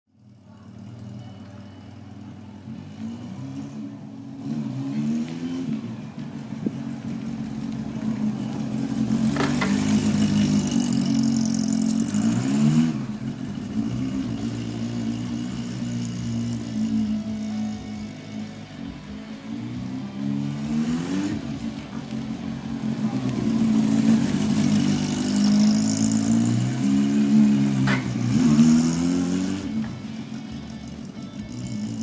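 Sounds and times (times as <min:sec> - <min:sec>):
motorcycle engine running: 0:00.1 - 0:32.0.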